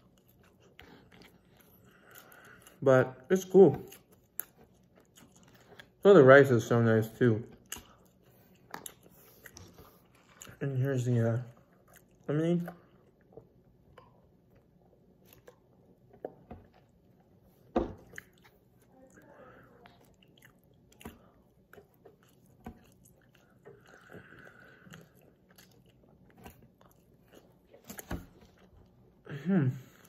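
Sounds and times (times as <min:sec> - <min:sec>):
chewing and mouth sounds: 0:00.0 - 0:06.1, 0:07.1 - 0:30.0.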